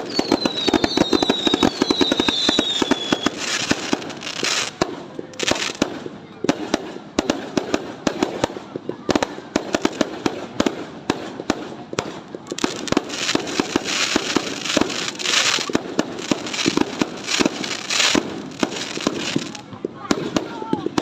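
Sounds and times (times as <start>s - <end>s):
fireworks bangs: 0.0s - 21.0s
fireworks crackling hiss: 0.0s - 21.0s.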